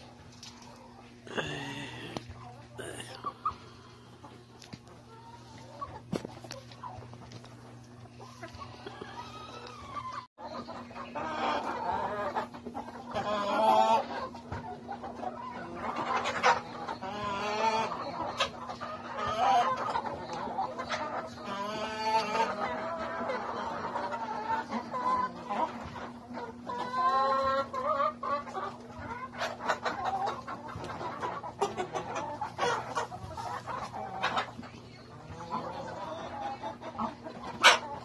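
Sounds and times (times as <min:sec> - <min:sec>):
faint steady hum: 0:00.0 - 0:38.0
hens clucking: 0:00.0 - 0:38.0.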